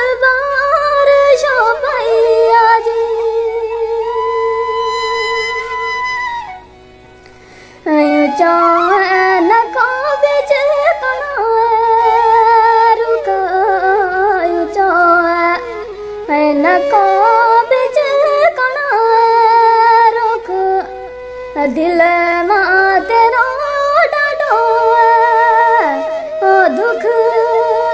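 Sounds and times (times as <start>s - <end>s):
person singing ornamented melody: 0.0s - 6.8s, 7.8s - 27.9s
folk music: 0.0s - 27.9s.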